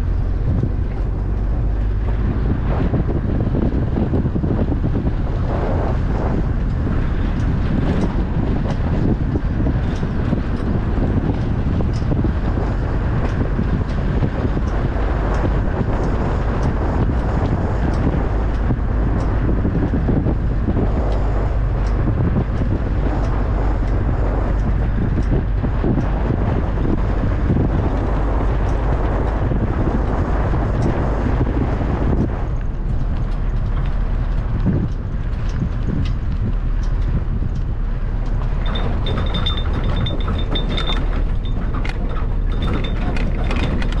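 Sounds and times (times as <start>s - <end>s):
vehicle low rumble: 0.0s - 44.0s
wind buffeting microphone: 0.0s - 44.0s.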